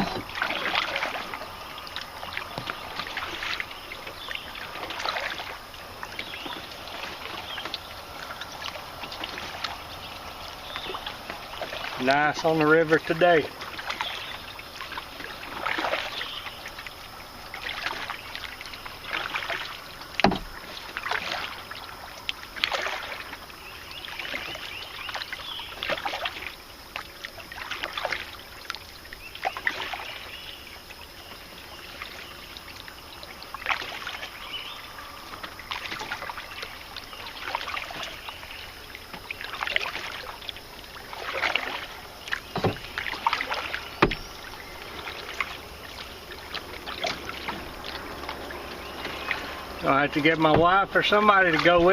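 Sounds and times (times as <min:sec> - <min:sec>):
paddle strokes splashing water: 0:00.0 - 0:51.9.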